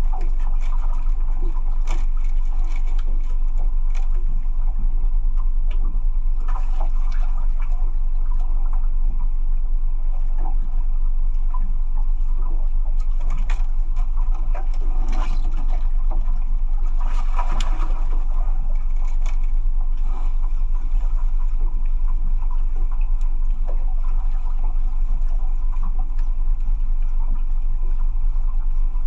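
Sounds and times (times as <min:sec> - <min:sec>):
small boat engine running: 0:00.0 - 0:29.0
water splashing and sloshing: 0:00.0 - 0:29.0.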